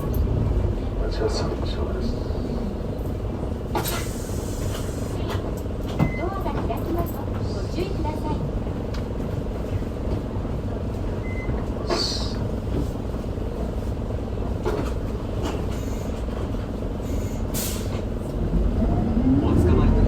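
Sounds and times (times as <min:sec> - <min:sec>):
bus diesel engine idling: 0:00.0 - 0:18.6.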